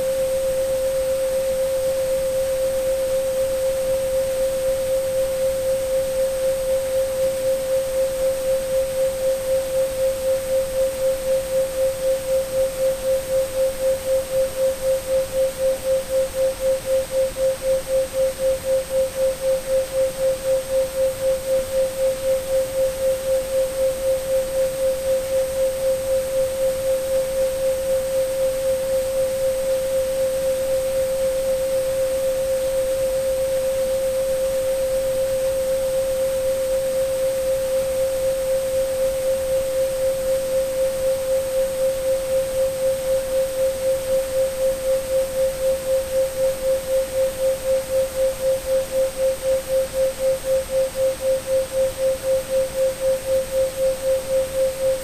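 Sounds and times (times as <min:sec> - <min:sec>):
even hiss of noise: 0:00.0 - 0:55.0
pulsing pure tone: 0:00.0 - 0:55.0.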